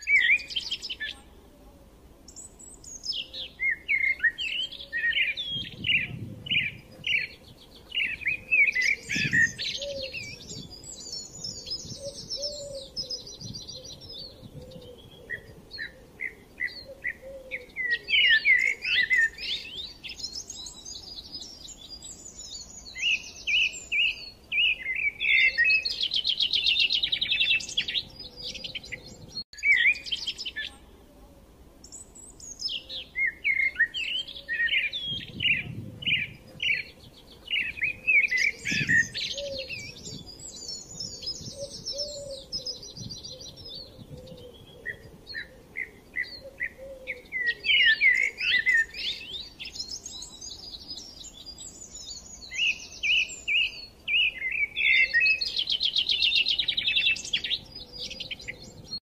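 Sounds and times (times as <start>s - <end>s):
birds chirping: 0.0s - 1.5s, 2.3s - 31.2s, 31.8s - 59.0s.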